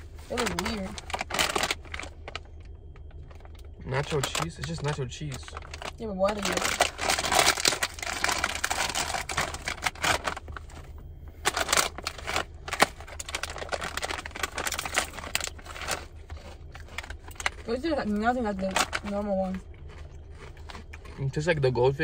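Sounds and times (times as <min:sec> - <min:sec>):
foil chip bag crinkling: 0:00.0 - 0:21.5.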